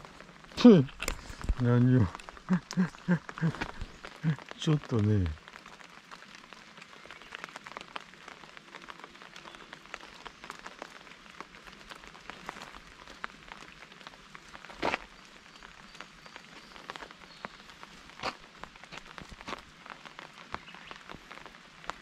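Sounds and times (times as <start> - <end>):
raindrops tapping: 0.0 - 22.0.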